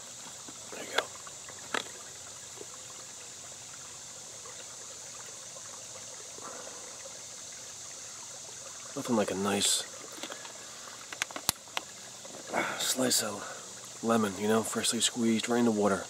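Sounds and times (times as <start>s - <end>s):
cicadas buzzing: 0.0s - 16.0s
stream trickling over rocks: 0.0s - 16.0s.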